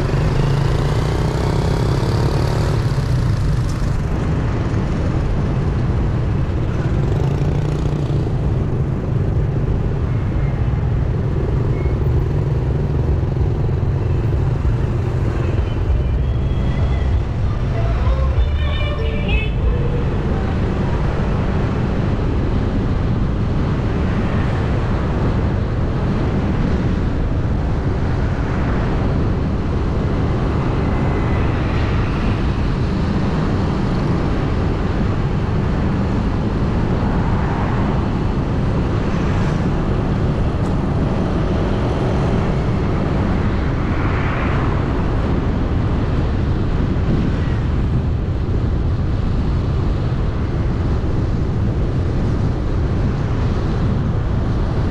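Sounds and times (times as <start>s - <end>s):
passing traffic: 0.0s - 54.9s
vehicle driving rumble: 0.0s - 54.9s.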